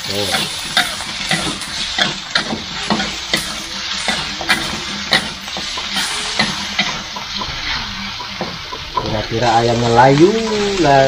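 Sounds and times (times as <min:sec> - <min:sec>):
chicken sizzling in a wok: 0:00.0 - 0:11.0
metal spatula scraping a pan: 0:00.0 - 0:11.0.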